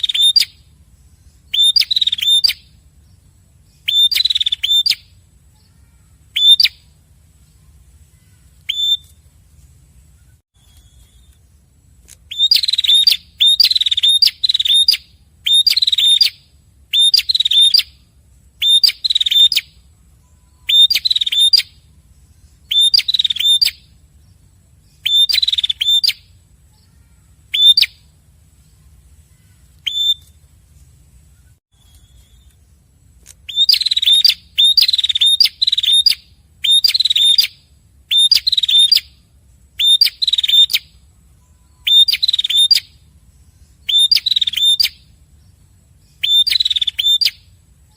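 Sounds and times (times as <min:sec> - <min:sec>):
birds chirping in duet: 0:00.0 - 0:09.3, 0:10.0 - 0:30.5, 0:31.2 - 0:47.9.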